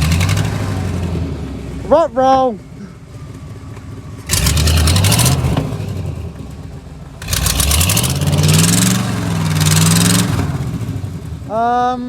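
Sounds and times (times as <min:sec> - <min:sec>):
car engine revving: 0:00.0 - 0:12.0
wheels spinning in snow: 0:00.0 - 0:12.0.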